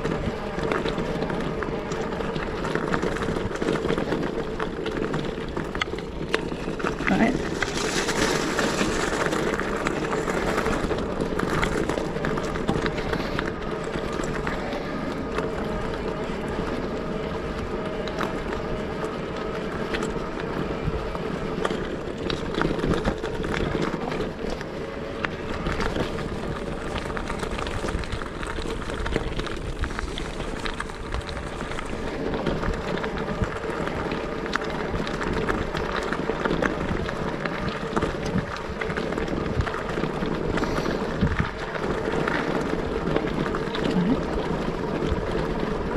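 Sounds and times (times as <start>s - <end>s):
rushing wind and road noise: 0.0s - 45.9s
small rattles and clicks: 0.0s - 45.9s.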